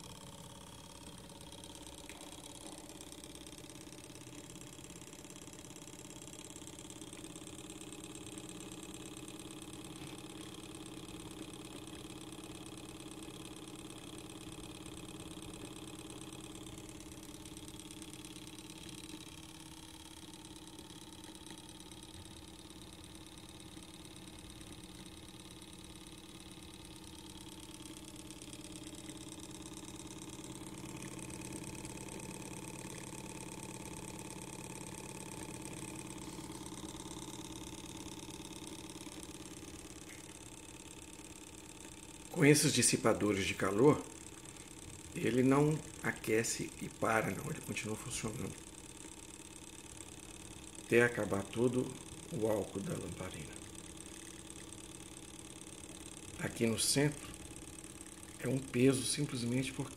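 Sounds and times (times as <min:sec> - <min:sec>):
small engine running fast: 0:00.0 - 0:59.9.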